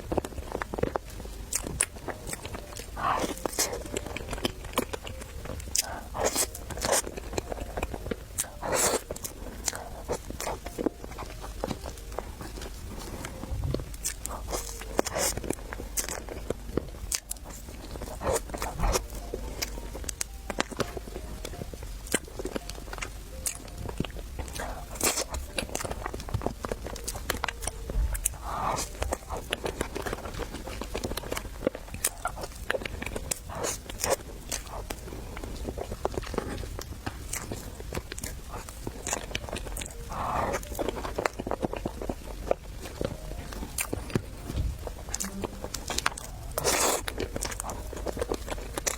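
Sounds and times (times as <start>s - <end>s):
chewing and biting: 0.0s - 48.9s.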